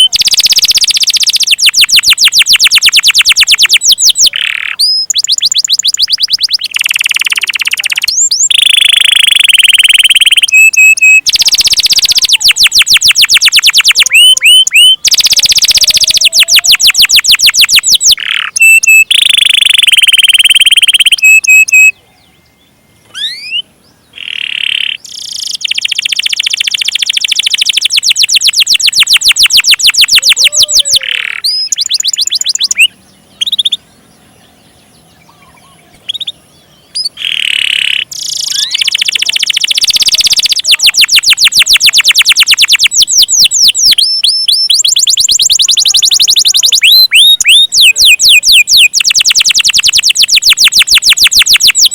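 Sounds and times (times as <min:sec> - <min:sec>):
canary singing: 0:00.0 - 0:51.9.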